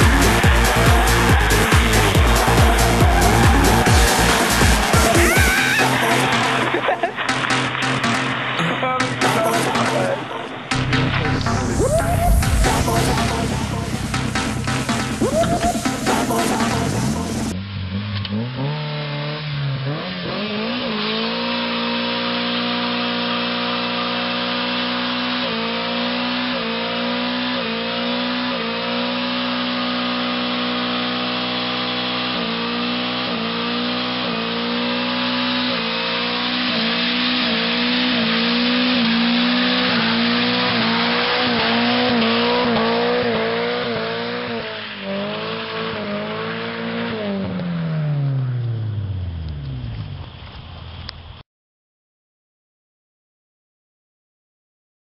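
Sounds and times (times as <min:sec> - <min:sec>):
spinning tyres squealing: 0:00.0 - 0:51.1
car engine revving: 0:00.0 - 0:51.4.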